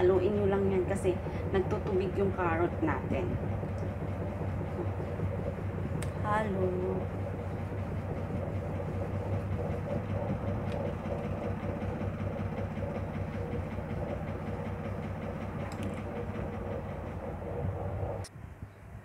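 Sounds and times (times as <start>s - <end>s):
whisk beating batter in metal bowl: 0.0s - 16.4s.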